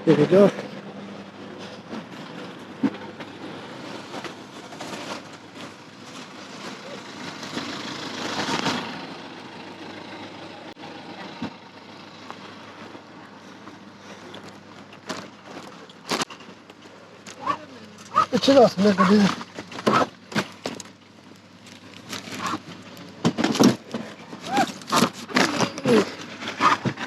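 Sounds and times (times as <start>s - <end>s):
car engine: 0.0s - 27.0s.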